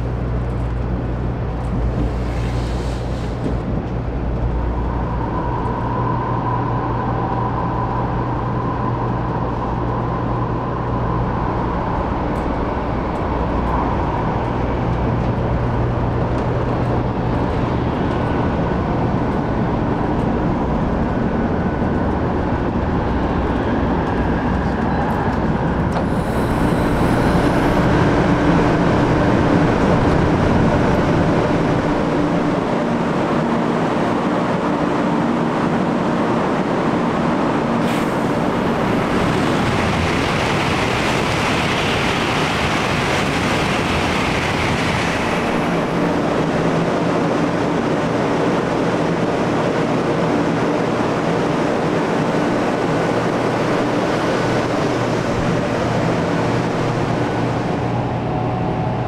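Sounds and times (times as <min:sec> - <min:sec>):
train rumble inside passenger car: 0:00.0 - 0:59.0.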